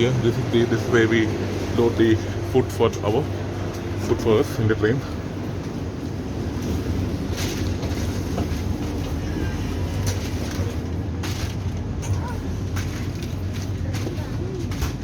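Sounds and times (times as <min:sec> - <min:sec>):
low hum inside train carriage: 0:00.0 - 0:15.0.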